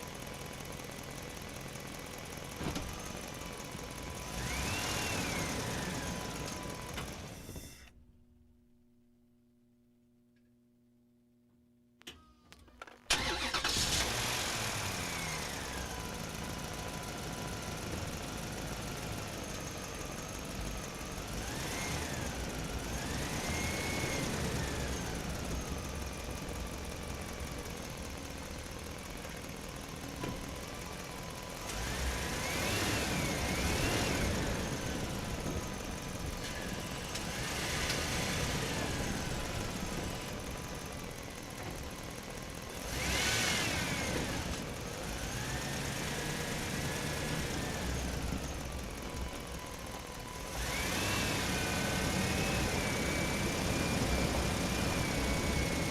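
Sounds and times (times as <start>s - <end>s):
truck engine running: 0.0s - 7.8s, 12.8s - 55.9s.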